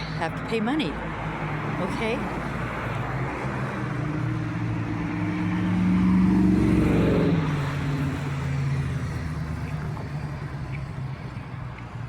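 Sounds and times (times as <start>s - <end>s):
road traffic: 0.0s - 12.0s
vehicle driving past: 1.1s - 12.0s.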